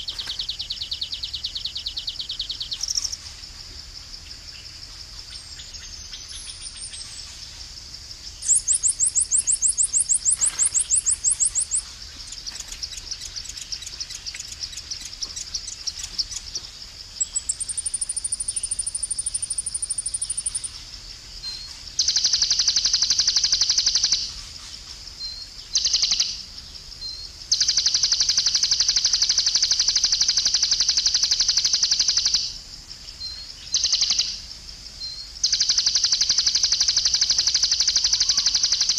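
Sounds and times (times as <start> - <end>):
bird trills and chirps: 0.0 - 3.4, 4.6 - 7.7, 8.3 - 32.6, 33.2 - 38.9
high insect drone: 0.0 - 38.9.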